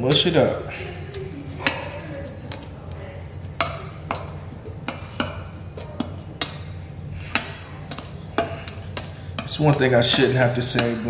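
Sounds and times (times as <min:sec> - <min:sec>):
metal spoon scraping metal bowl: 0:01.4 - 0:11.0.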